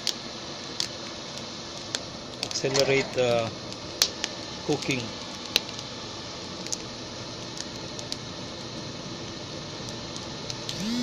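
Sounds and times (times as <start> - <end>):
fire rushing hiss: 0.0 - 10.2
burning husk crackles: 0.0 - 10.7
electric fan blowing: 0.0 - 11.0.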